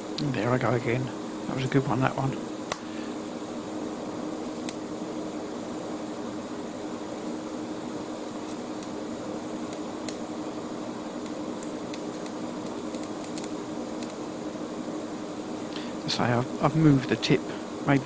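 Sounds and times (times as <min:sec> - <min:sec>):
constant hum: 0:00.0 - 0:18.0
welding arc hiss: 0:00.0 - 0:18.0.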